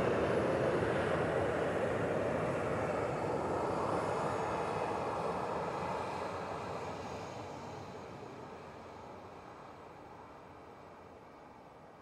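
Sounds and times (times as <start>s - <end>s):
jet engines rumbling at taxi: 0.0s - 11.9s.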